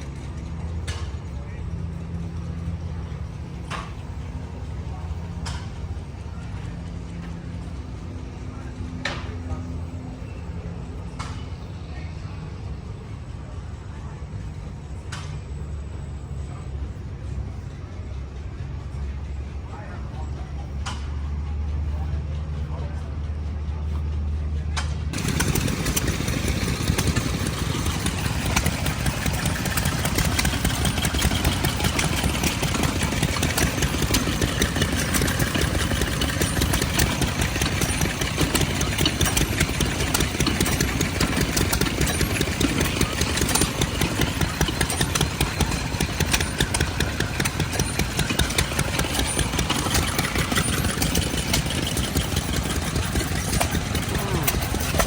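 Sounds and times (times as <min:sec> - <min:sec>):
antique engine chugging: 0:00.0 - 0:55.0.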